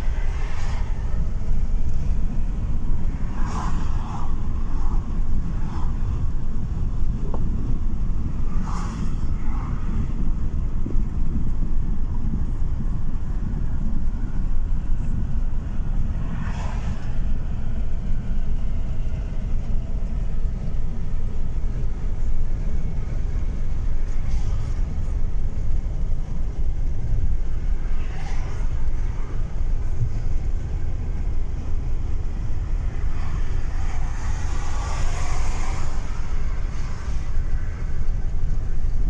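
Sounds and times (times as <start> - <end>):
tyres rumbling on road: 0.0 - 39.0.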